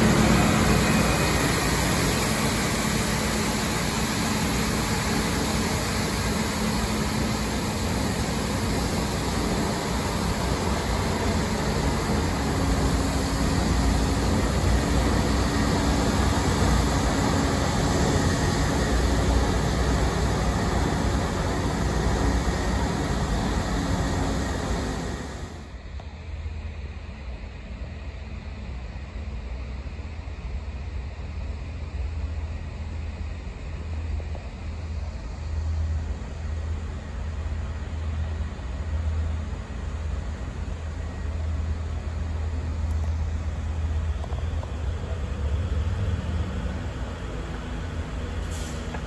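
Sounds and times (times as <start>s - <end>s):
train cars rolling on track: 0.0s - 25.8s, 34.4s - 49.0s
diesel generator running: 0.0s - 26.0s, 33.5s - 49.0s.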